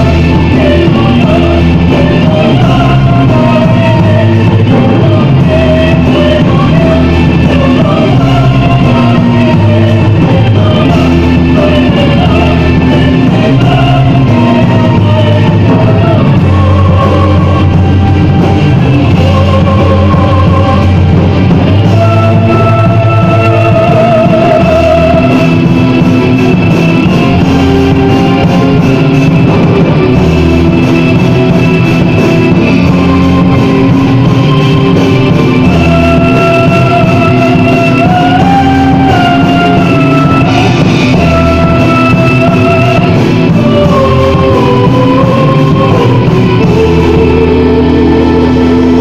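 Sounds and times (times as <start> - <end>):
metal band playing: 0.0 - 49.0.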